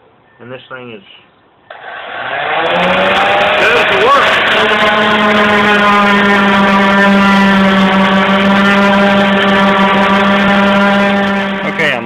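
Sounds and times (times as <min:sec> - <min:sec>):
orbital sander buzzing on wood: 0:02.3 - 0:12.0.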